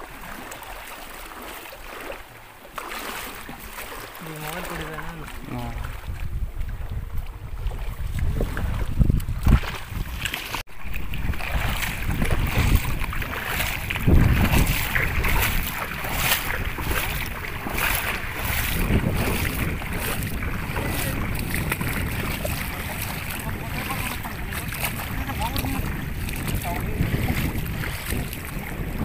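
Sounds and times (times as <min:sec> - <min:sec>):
river water flowing: 0:00.0 - 0:06.7, 0:09.6 - 0:29.0
feet wading through shallow water: 0:00.0 - 0:29.0
wind rumbling on microphone: 0:04.2 - 0:29.0.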